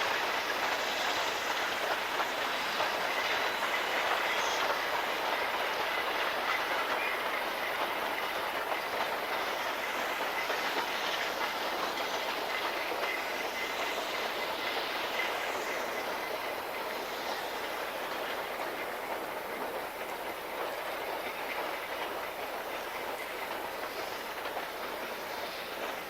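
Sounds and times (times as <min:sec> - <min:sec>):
train wheels clattering over rails: 0:00.0 - 0:26.0.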